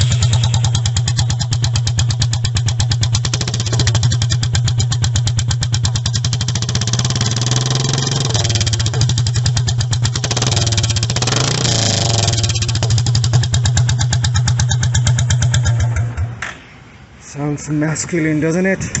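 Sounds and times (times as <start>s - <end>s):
motorcycle engine idling: 0.0s - 16.4s.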